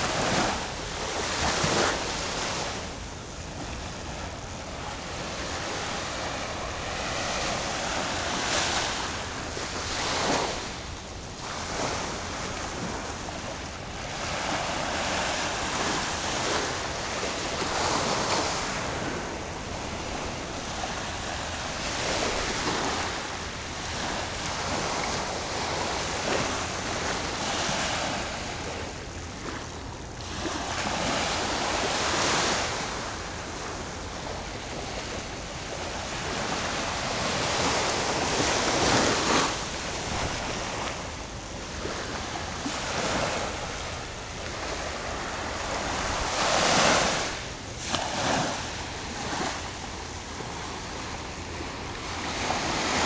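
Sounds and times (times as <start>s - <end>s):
waves washing onto sandy beach: 0.0s - 53.0s.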